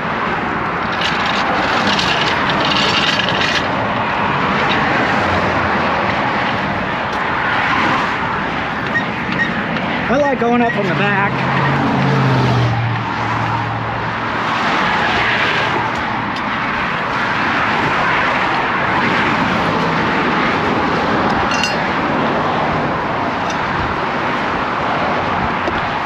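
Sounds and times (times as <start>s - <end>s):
highway traffic rushing past: 0.0s - 26.0s.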